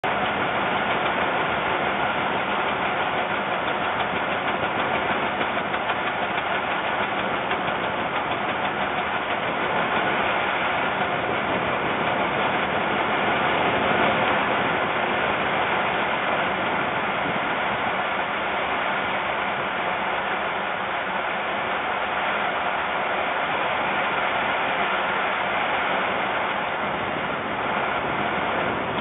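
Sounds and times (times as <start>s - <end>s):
wind buffeting microphone: 0.1s - 19.8s, 25.4s - 29.0s.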